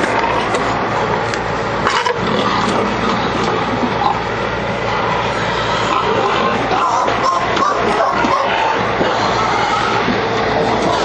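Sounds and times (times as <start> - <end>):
loud background din: 0.0 - 11.0.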